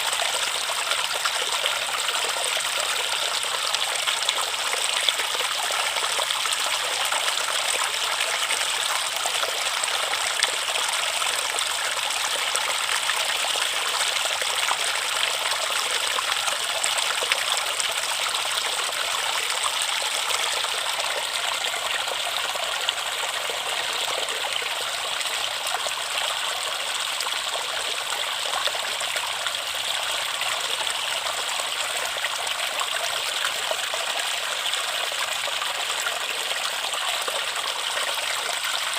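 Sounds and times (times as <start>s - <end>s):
stream water trickling over stones: 0.0s - 38.9s.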